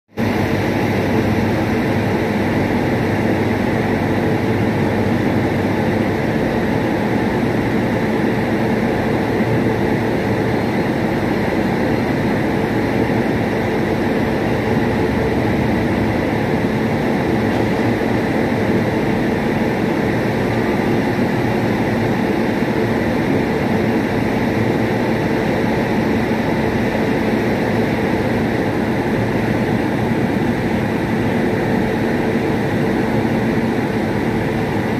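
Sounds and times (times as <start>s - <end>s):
train machinery hum: 0.1s - 34.9s.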